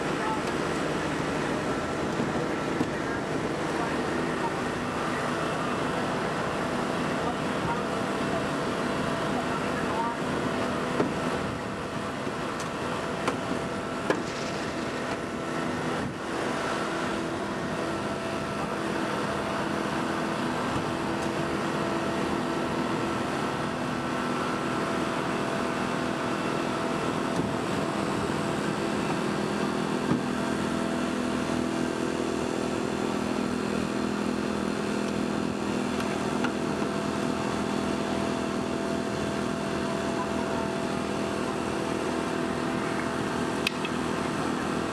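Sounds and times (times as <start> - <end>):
power unit running: 0.0 - 44.9.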